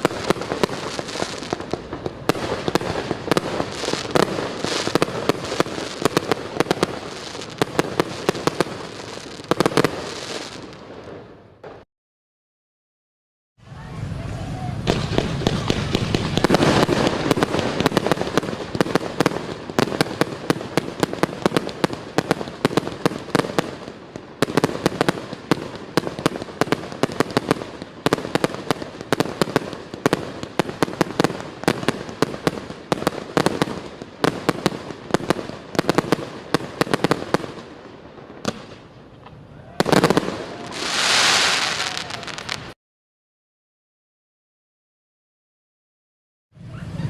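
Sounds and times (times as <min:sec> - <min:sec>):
fireworks cracking and popping: 0:00.0 - 0:11.9, 0:13.7 - 0:42.8
fireworks crackle: 0:00.0 - 0:11.9, 0:13.6 - 0:42.8.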